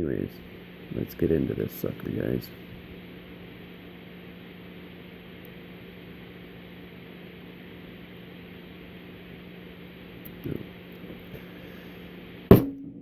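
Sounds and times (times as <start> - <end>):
steady hiss with low hum: 0.0 - 13.0.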